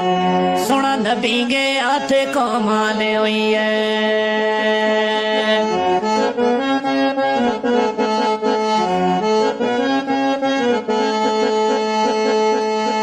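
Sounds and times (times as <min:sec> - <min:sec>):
harmonium melody over drone: 0:00.0 - 0:13.0.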